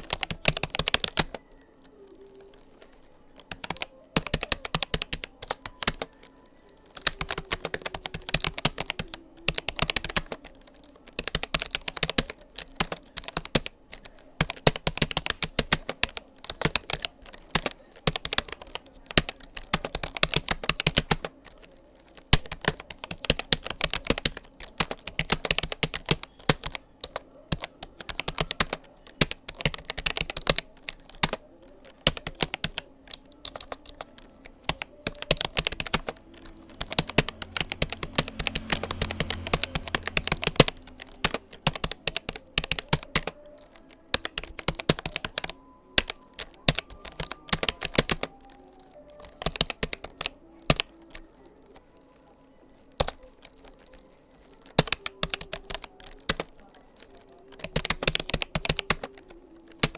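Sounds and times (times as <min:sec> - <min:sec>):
computer keyboard typing: 0:00.0 - 0:59.9.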